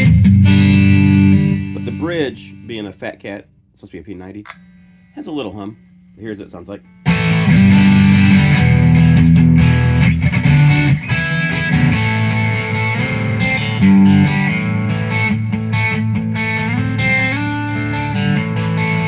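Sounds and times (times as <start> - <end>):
distorted electric guitar chords: 0.0 - 3.4, 4.5 - 19.0.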